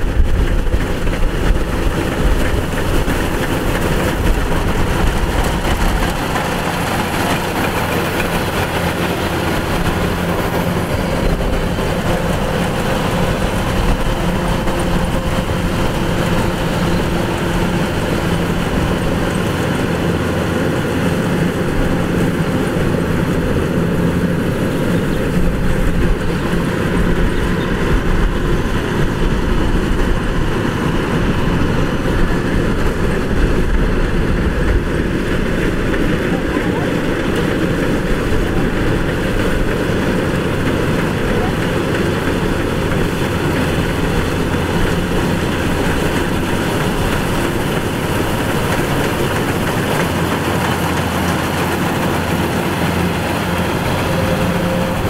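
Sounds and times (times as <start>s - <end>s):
combine harvester engine droning: 0.0s - 55.0s.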